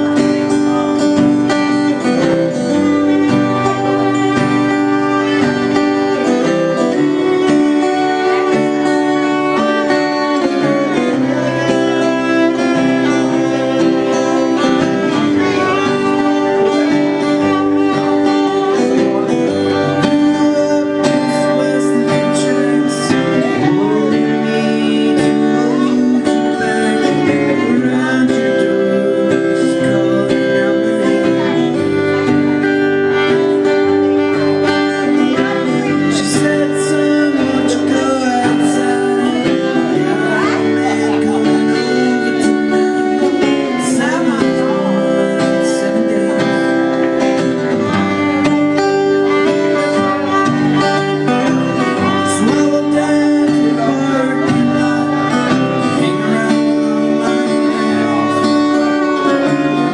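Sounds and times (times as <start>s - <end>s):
acoustic guitar strumming: 0.0s - 59.9s
fiddle playing: 0.0s - 59.9s.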